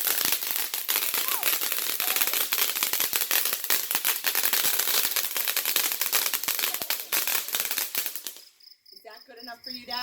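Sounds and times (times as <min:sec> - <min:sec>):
firework crackling: 0:00.0 - 0:08.5.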